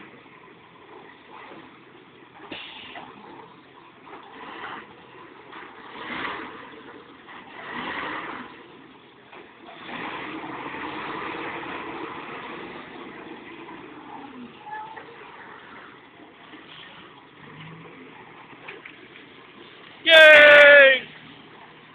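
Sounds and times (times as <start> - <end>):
tractor engine under load: 0.0 - 21.9.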